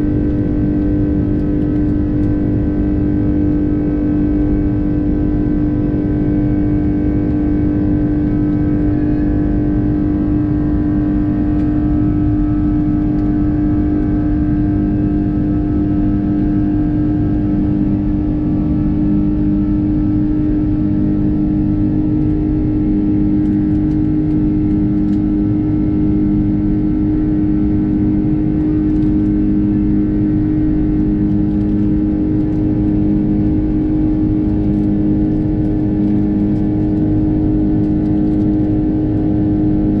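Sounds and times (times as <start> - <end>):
airplane cabin engine drone: 0.0 - 40.0.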